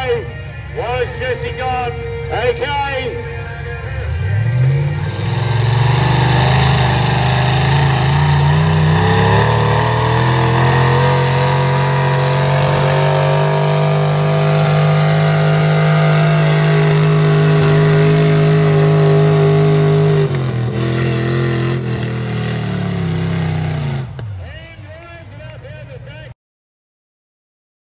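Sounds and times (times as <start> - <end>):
tractor engine at full throttle: 3.4 - 26.2.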